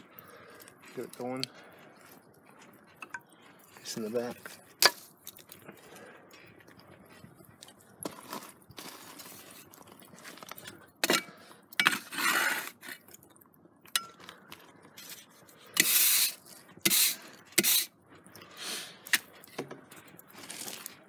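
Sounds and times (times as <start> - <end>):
coals clinking: 0.0 - 21.0.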